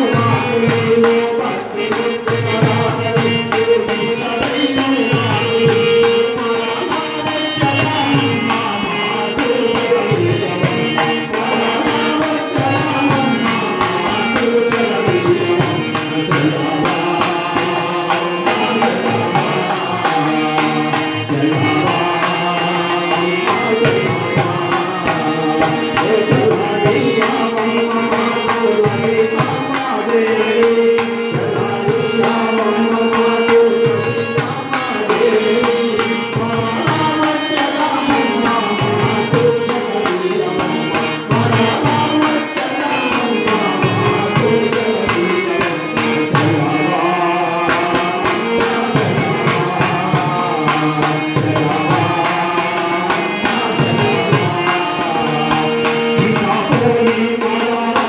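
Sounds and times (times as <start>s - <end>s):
hand percussion beat: 0.0s - 58.0s
harmonium: 0.0s - 58.0s
man singing into a microphone: 0.0s - 58.0s.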